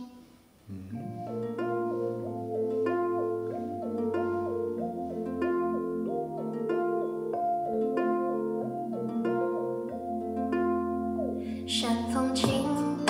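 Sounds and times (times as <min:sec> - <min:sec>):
bass line: 0:00.7 - 0:13.0
plucked harp-like notes: 0:00.7 - 0:13.0.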